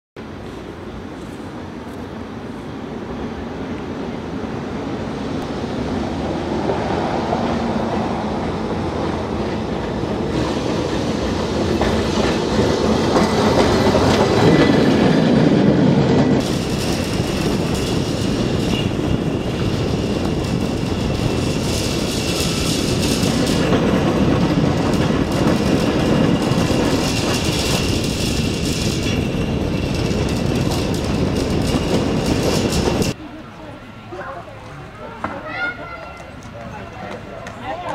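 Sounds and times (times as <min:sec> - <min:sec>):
streetcar wheels rumbling on rails: 0:00.2 - 0:37.9.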